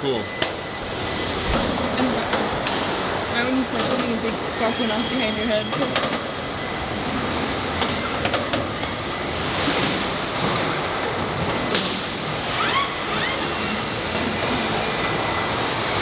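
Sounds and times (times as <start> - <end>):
steady machinery noise: 0.0 - 16.0.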